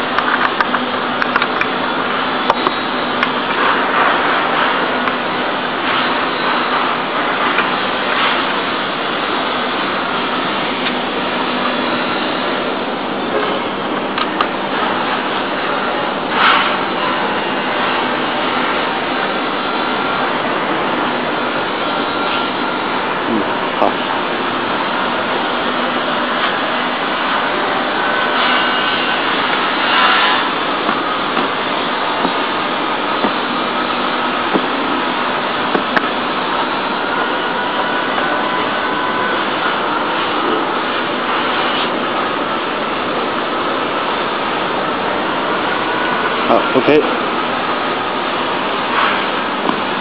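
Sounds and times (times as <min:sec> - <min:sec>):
workshop machinery noise: 0:00.0 - 0:50.0.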